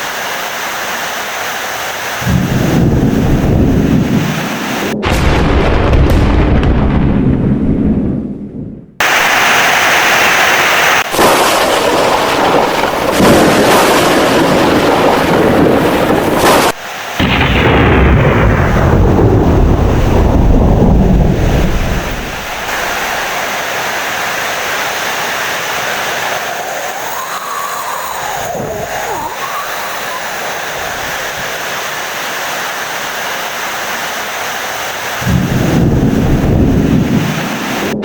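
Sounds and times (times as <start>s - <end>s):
heavy rain: 0.0s - 5.1s, 9.0s - 38.0s
thunder rumbling: 2.2s - 32.2s, 35.0s - 38.0s.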